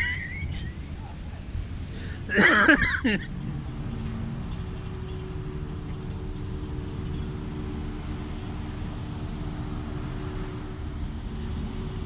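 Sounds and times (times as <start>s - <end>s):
ferry engine drone: 0.0s - 12.0s
rush of wind and water: 0.0s - 12.0s.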